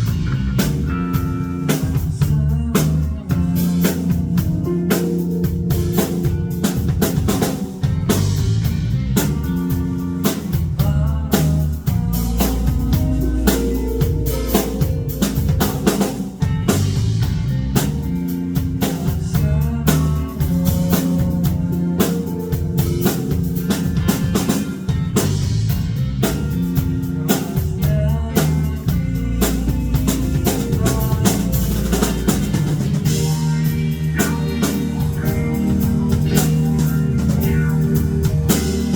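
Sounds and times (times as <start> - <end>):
drum kit beat: 0.0 - 38.9
live rock band playing: 0.0 - 38.9
low bass notes: 0.0 - 38.9.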